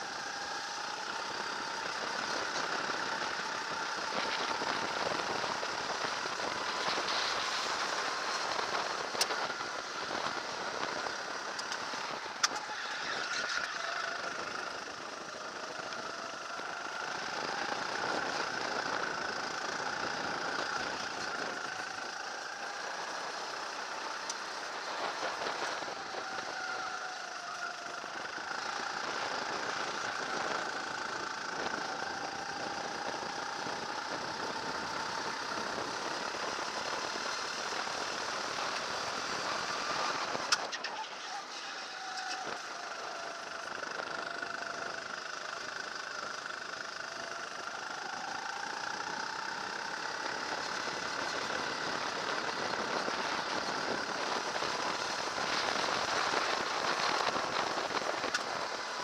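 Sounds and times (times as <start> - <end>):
racing car engine: 0.0 - 59.0.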